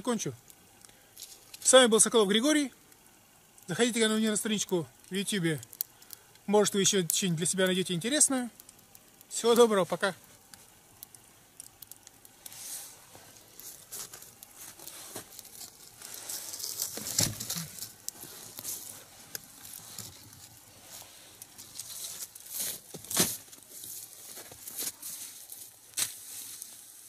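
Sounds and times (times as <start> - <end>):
log fire crackling and popping: 0.0 - 27.0.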